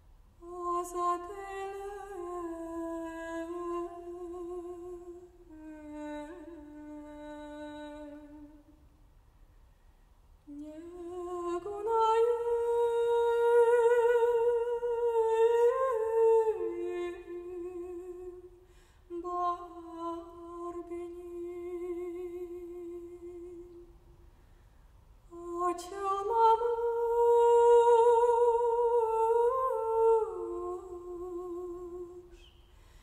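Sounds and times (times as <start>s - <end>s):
woman singing with vibrato: 0.4s - 8.8s, 10.5s - 23.9s, 25.3s - 32.5s.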